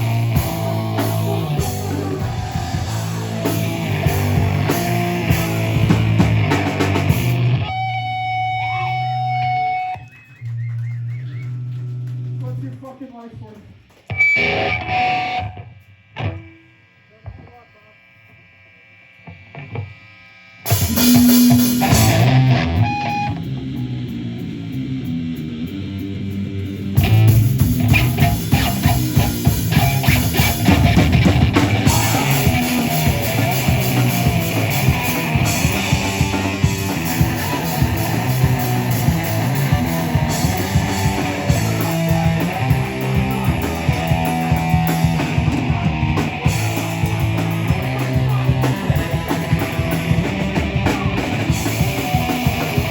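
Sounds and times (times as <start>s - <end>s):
distorted guitar chord: 0.0s - 9.8s, 14.1s - 52.9s
rock band playing loud: 0.0s - 10.5s, 13.6s - 16.7s, 20.6s - 52.9s.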